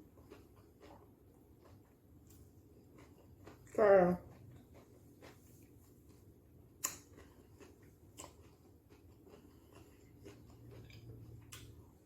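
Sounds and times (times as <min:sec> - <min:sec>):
faint chewing and mouth sounds: 0:00.0 - 0:12.0.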